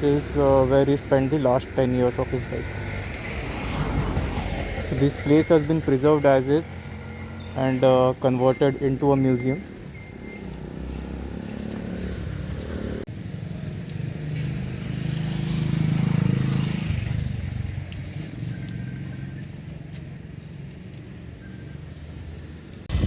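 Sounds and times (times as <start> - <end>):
motor vehicle passing: 0.0 - 7.8, 9.7 - 23.0.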